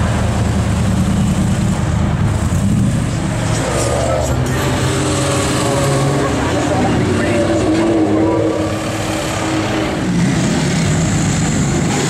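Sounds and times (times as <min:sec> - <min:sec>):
other car engines: 0:00.0 - 0:12.0.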